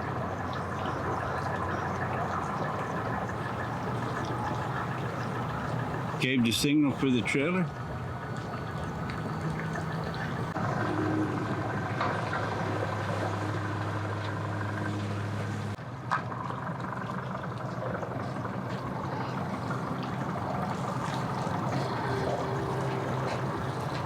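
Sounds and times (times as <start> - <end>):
motor engine humming: 0.0 - 24.0.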